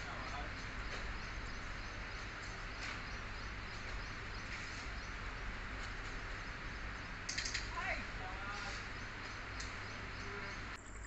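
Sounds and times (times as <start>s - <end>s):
distant chirps: 0.0s - 11.0s
steady hiss: 0.0s - 11.0s.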